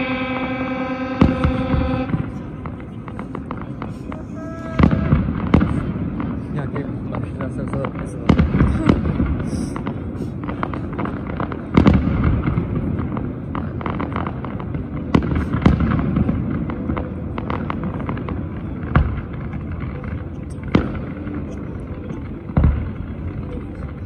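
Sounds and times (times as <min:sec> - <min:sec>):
fireworks bangs and crackles: 0:00.0 - 0:24.0
loud firework booms: 0:00.0 - 0:24.0.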